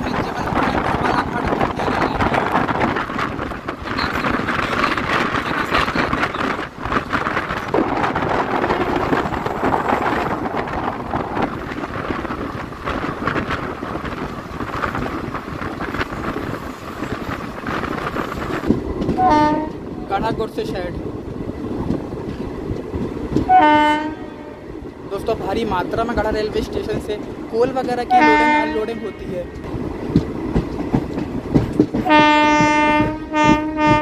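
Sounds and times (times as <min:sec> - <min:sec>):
train wheels rumbling on track: 0:00.0 - 0:34.0
wind noise: 0:00.0 - 0:34.0.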